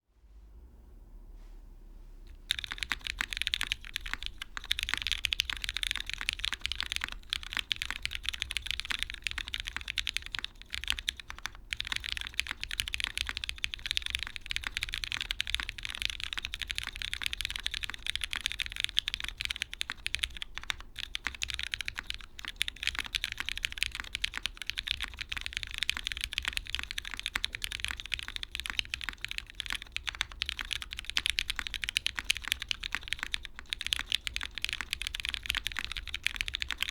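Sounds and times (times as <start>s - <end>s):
fast mechanical keyboard typing: 2.4s - 36.9s.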